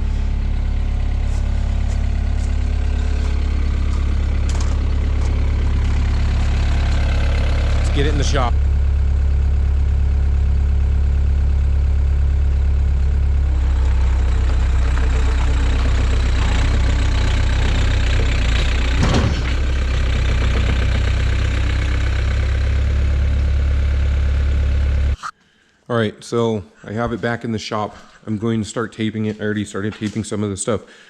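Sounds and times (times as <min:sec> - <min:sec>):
diesel engine humming: 0:00.0 - 0:25.2.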